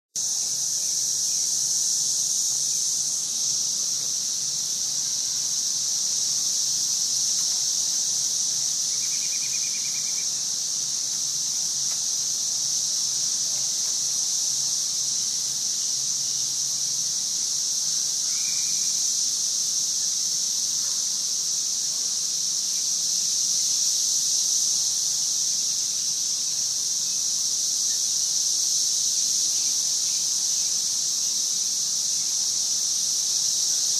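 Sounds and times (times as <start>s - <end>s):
cicadas singing: 0.2s - 33.9s.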